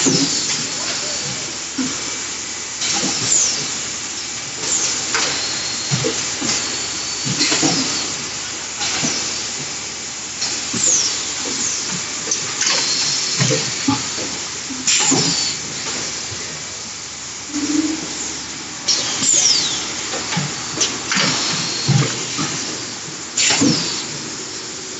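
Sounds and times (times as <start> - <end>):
production line hiss: 0.0 - 24.9.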